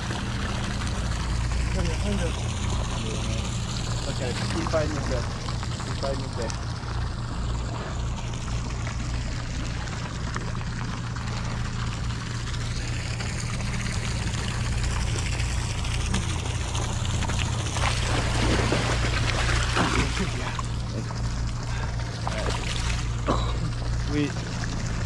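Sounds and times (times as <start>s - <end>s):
boat engine drone: 0.0s - 25.0s
water splashing and sloshing: 0.0s - 25.0s.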